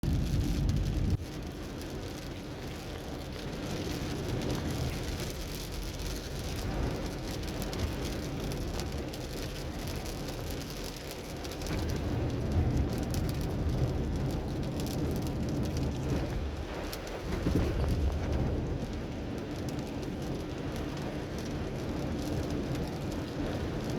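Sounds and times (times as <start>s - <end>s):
low rumble of car and road: 0.0s - 23.9s
rain pattering on a car: 0.0s - 23.9s.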